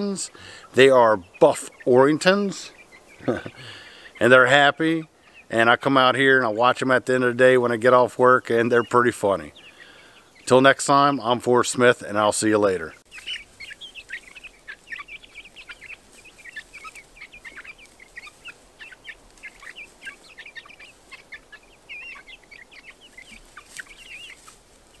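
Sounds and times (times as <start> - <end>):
chicks peeping and chirping: 0.0 - 25.0.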